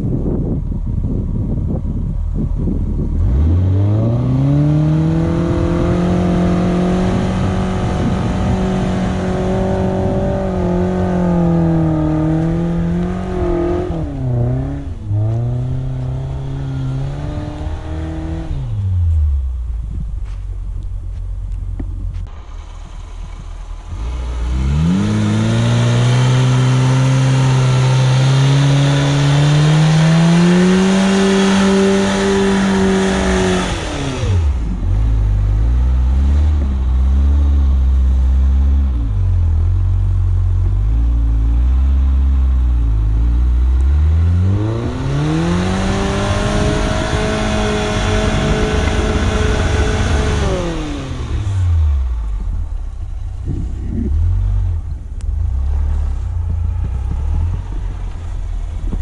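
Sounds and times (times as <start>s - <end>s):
car engine revving: 2.4s - 59.0s.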